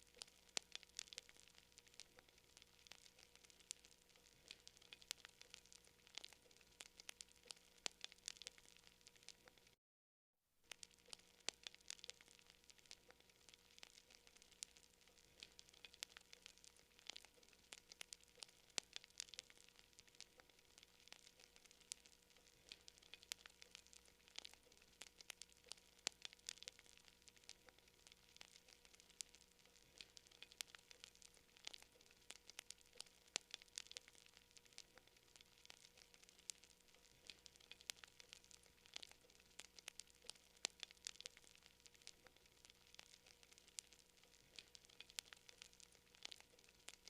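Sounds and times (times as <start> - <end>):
campfire wood crackling: 0.0 - 9.8, 10.6 - 47.0
faint steady hiss: 0.0 - 9.8, 10.5 - 47.0
faint steady hum: 0.0 - 9.8, 10.5 - 47.0.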